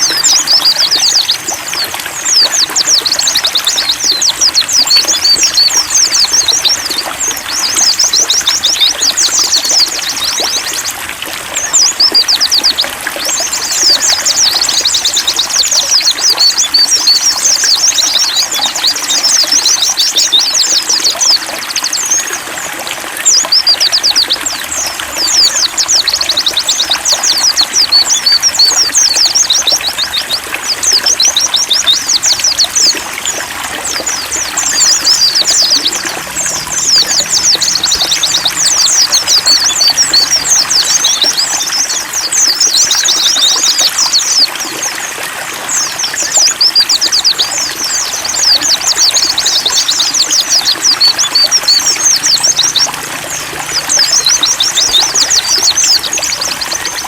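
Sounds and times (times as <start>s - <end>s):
bird twittering: 0.0s - 44.9s, 45.7s - 57.0s
water trickling: 0.0s - 57.0s.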